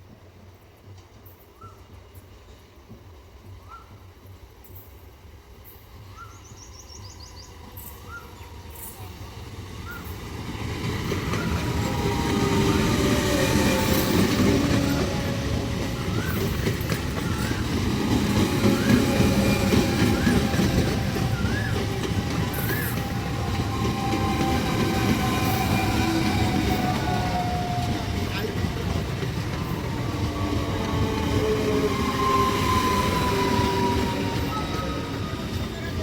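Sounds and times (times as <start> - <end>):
passenger train rumbling: 0.0 - 36.0.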